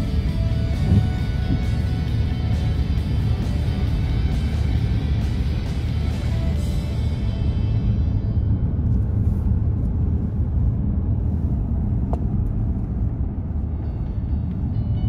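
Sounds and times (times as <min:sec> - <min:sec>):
car driving heard from inside: 0:00.0 - 0:15.0.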